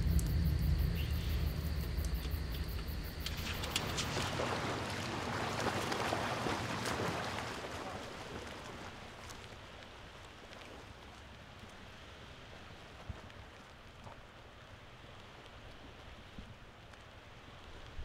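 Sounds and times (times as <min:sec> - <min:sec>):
small waves washing on sand: 0:01.6 - 0:18.0.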